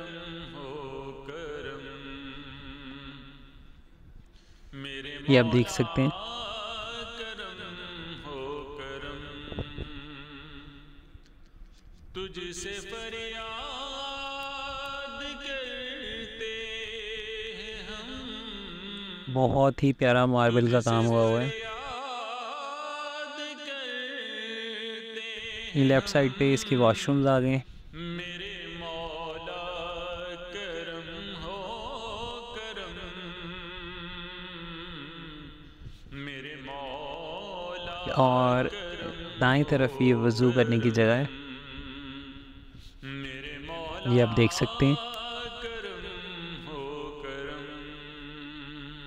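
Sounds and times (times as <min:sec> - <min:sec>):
solo voice chanting: 0:00.0 - 0:03.7, 0:04.4 - 0:11.2, 0:12.2 - 0:49.0.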